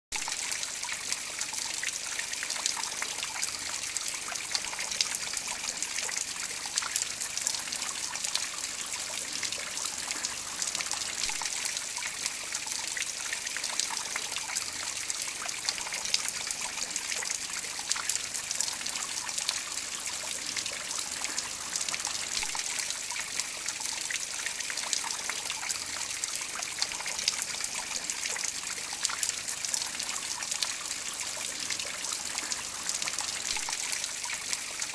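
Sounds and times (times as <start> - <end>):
small drip splashes: 0.2 - 34.9.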